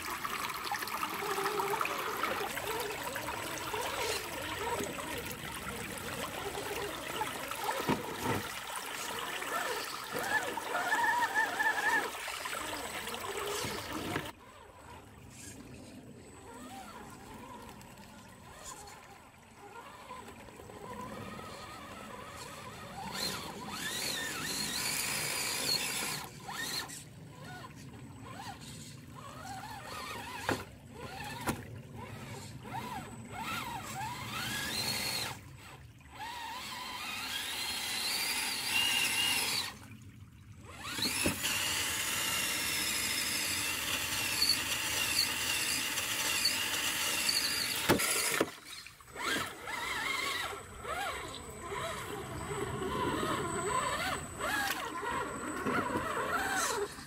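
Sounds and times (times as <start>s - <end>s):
rc car motor and gears whining: 0.0s - 39.9s, 40.6s - 57.0s
running creek water: 0.0s - 57.0s.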